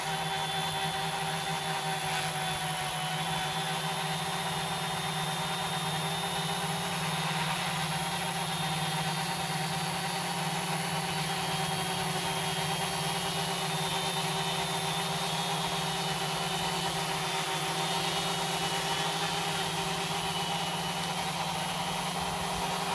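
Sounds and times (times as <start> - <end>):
quadcopter propellers whirring: 0.0 - 22.9.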